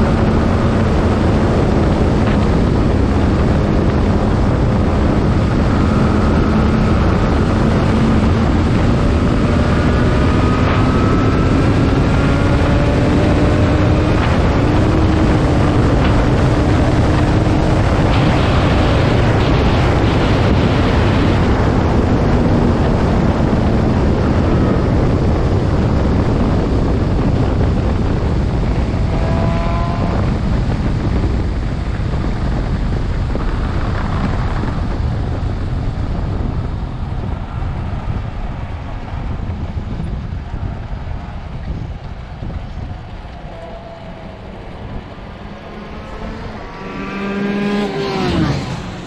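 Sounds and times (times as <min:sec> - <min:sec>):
motorcycle wind rush and rolling: 0:00.0 - 0:49.0.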